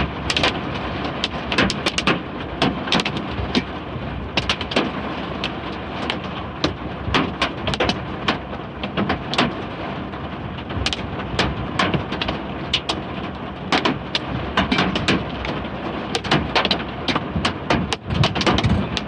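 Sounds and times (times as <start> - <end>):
hailstones striking a vehicle: 0.0 - 19.0.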